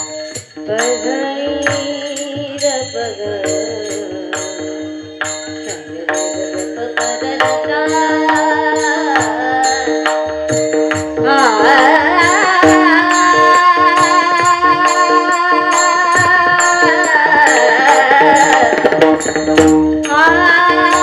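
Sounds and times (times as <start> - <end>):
woman singing: 0.0 - 10.3, 11.1 - 19.3, 20.0 - 21.0
held instrumental tones: 0.0 - 21.0
percussion steady beat: 0.0 - 21.0.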